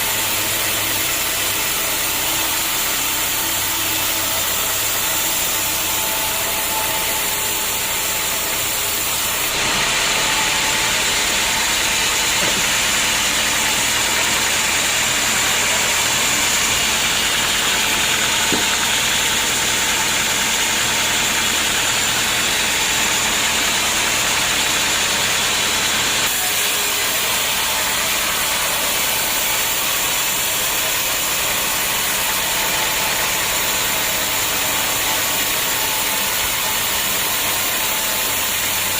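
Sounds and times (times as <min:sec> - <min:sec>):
band sawmill running: 0:00.0 - 0:38.9.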